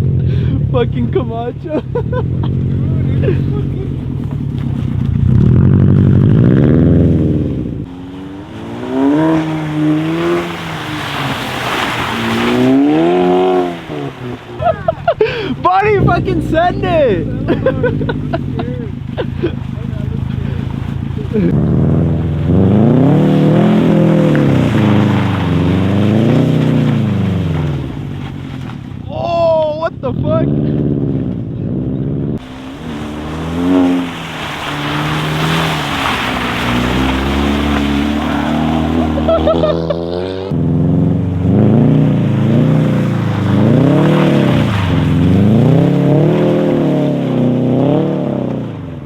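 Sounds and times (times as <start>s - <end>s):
car engine revving: 0.0s - 29.0s, 29.9s - 49.0s.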